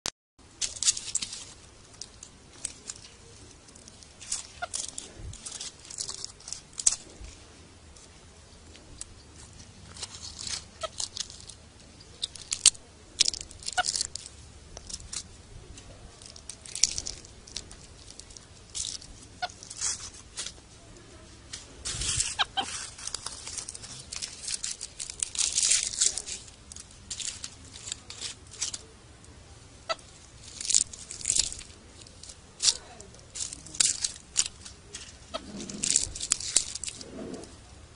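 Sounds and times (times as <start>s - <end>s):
dry leaves rustling and crunching: 0.4s - 37.9s.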